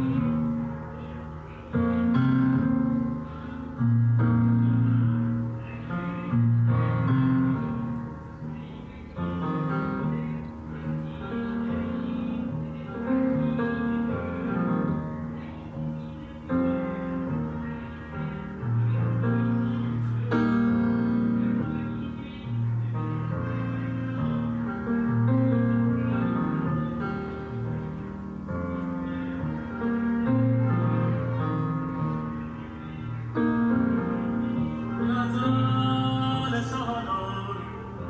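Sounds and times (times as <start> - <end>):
slow piano music: 0.0 - 38.0.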